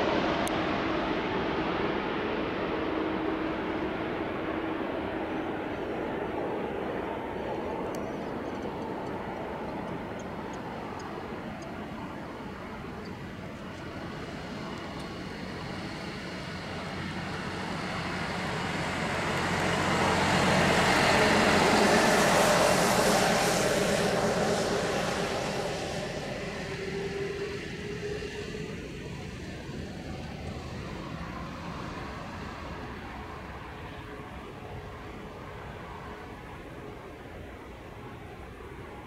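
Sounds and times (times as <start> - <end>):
faint steady whine: 0.0 - 39.0
jet engines passing: 0.0 - 39.0.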